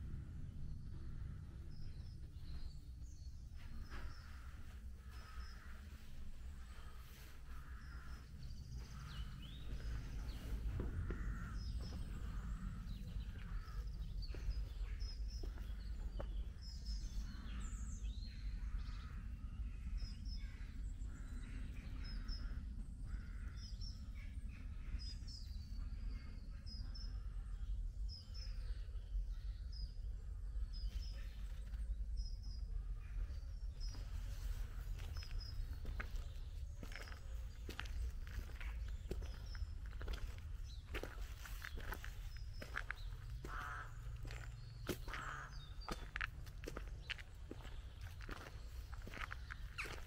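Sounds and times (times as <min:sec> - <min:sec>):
birds singing: 0:00.0 - 0:50.0
steady low rumble: 0:00.0 - 0:50.0.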